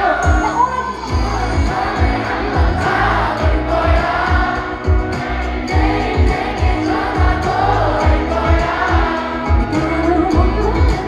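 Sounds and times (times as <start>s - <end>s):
live pop song: 0.0s - 11.0s
kick drum beat: 0.2s - 5.2s, 5.8s - 11.0s.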